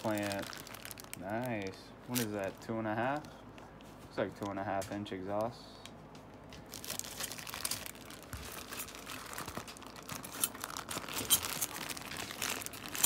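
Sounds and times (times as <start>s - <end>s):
packaging crinkling and rustling: 0.0s - 5.6s, 6.4s - 13.0s.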